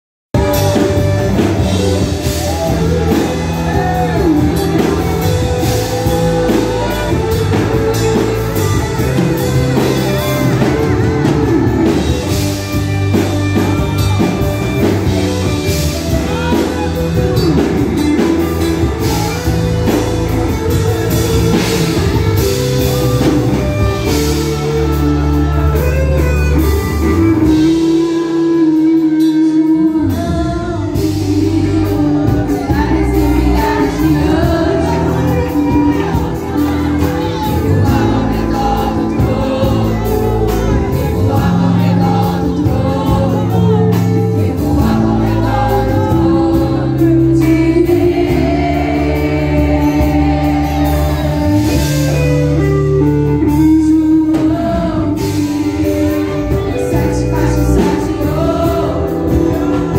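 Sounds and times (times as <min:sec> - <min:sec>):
drum kit: 0:00.3 - 0:59.9
guitar: 0:00.3 - 0:59.9
choir singing gospel: 0:00.4 - 0:59.9.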